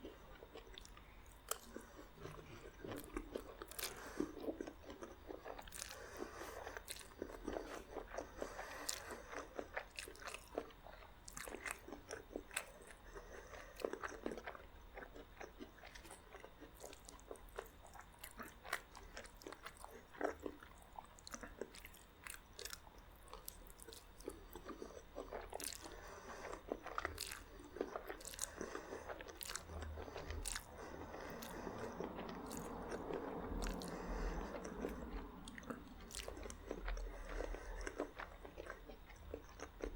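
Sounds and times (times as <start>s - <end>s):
person chewing crunchy bread: 0.0s - 39.9s.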